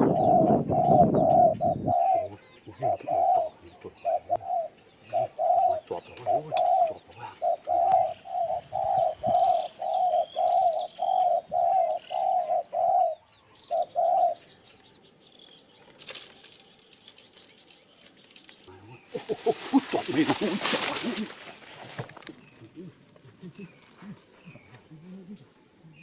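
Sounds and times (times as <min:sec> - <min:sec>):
dove cooing: 0:00.0 - 0:14.6, 0:18.7 - 0:26.0.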